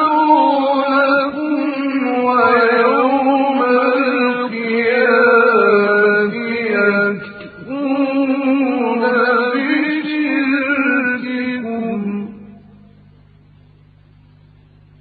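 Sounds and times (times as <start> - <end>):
man reciting melodically: 0.0 - 12.6.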